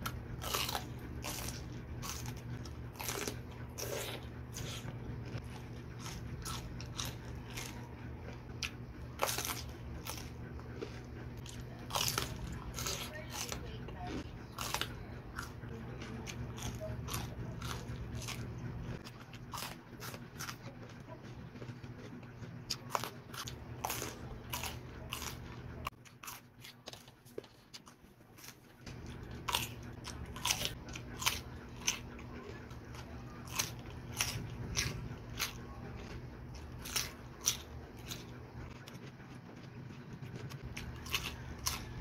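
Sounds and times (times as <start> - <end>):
crunching raw vegetables: 0.0 - 42.0.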